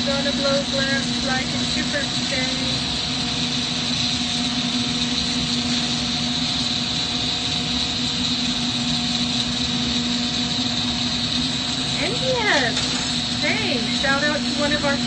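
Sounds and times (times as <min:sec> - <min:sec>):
constant low hum: 0:00.0 - 0:15.0
torch flame roaring: 0:00.0 - 0:15.0
ventilation running: 0:00.0 - 0:15.0.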